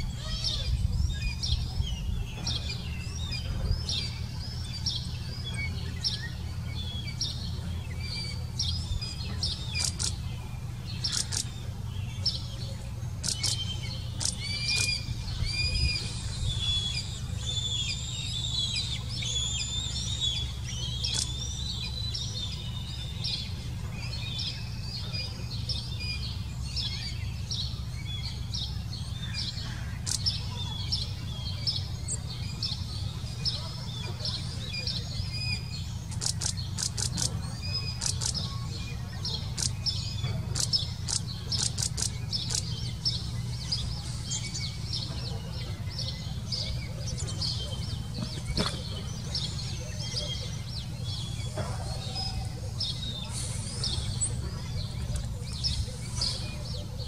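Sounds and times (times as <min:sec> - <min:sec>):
birds chirping and trilling: 0:00.0 - 0:57.0
low steady rumble: 0:00.0 - 0:57.0.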